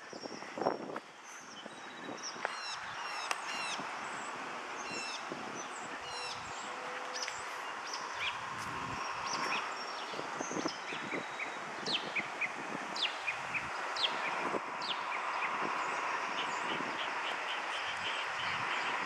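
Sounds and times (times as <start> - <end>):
outdoor background hiss: 0.0 - 19.0
small songbirds chirping: 0.0 - 19.0.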